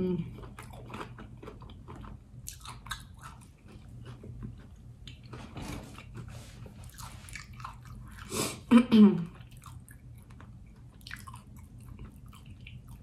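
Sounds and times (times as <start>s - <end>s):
chewing with soft crunches: 0.2s - 13.0s.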